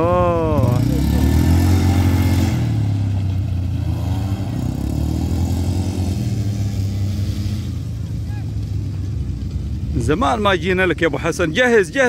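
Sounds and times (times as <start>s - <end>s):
quad bike engines humming: 0.0s - 12.0s.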